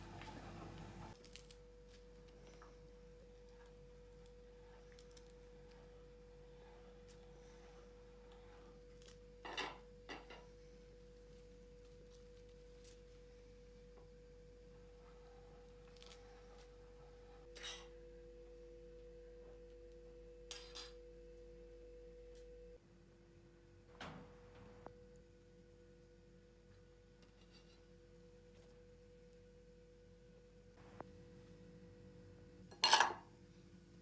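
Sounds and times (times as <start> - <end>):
steady high hum: 0.0 - 27.2, 27.9 - 34.0.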